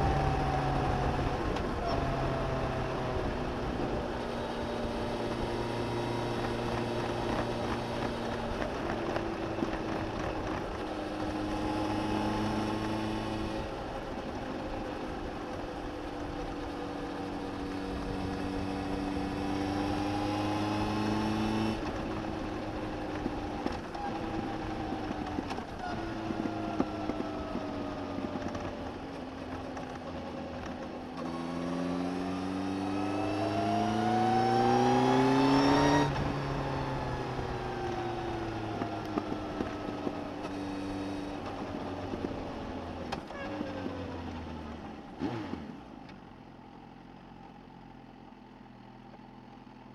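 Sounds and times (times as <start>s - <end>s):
motorcycle engine revving: 0.0s - 46.2s.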